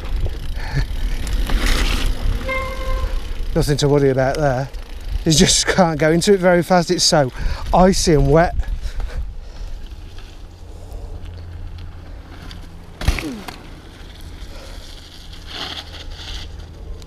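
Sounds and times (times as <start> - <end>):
bike tyres rumbling on trail: 0.0 - 17.0.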